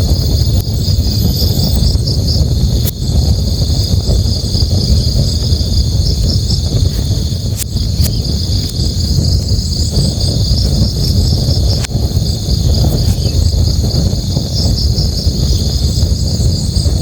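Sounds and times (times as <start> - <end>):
campfire crackling pops: 0.0 - 17.0
crickets chirring: 0.0 - 17.0.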